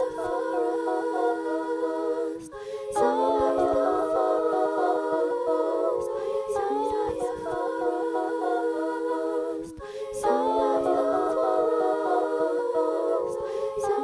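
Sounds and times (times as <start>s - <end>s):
voices humming harmonies: 0.0s - 14.0s.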